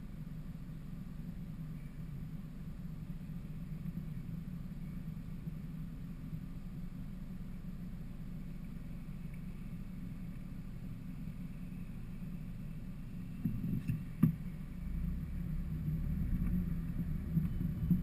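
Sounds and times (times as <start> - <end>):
van engine humming: 0.0 - 18.0.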